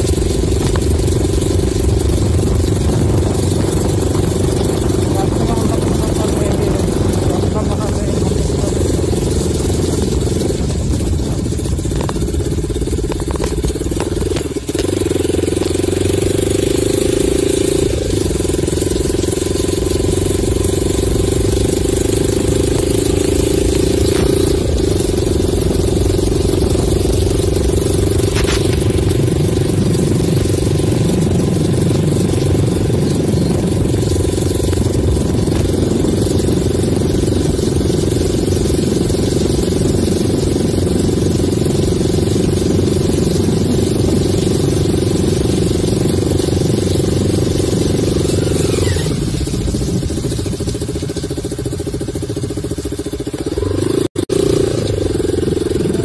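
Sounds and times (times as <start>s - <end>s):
wind noise: 0.0s - 19.0s, 19.8s - 51.2s
motorcycle engine running: 0.0s - 56.0s
tyre noise on dirt road: 0.0s - 56.0s.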